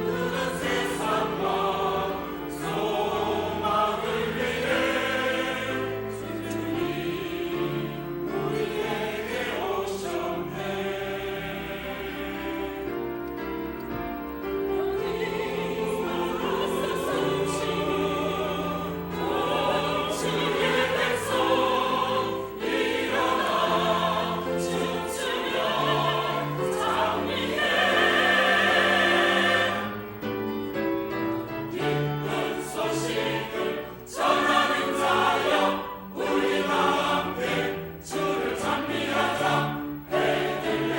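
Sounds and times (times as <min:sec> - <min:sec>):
choir singing in parts: 0:00.0 - 0:40.9
musical accompaniment: 0:00.0 - 0:40.9.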